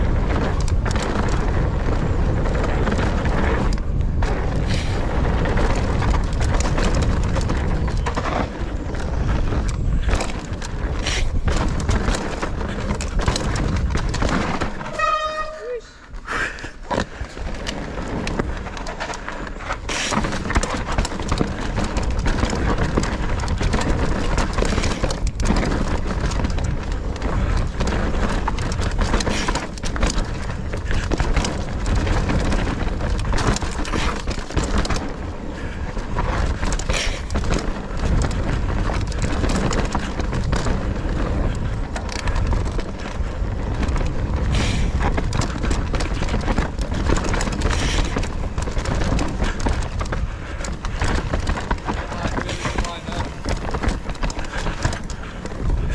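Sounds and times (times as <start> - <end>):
wind buffeting microphone: 0.0 - 15.4, 16.0 - 55.9
bike knocking over roots: 0.0 - 15.6, 16.4 - 55.9
bike chain and frame rattling: 0.0 - 55.9
knobby tyres on loose dirt: 0.0 - 55.9.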